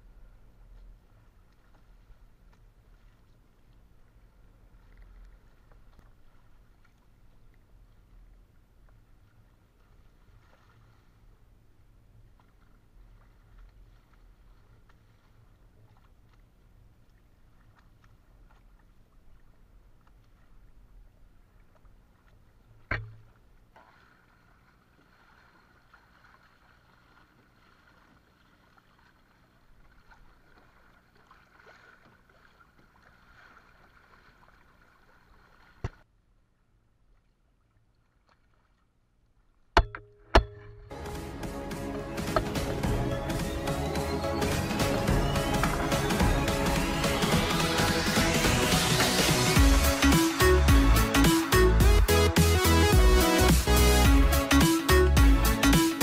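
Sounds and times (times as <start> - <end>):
water and wind noise: 0.0 - 52.2.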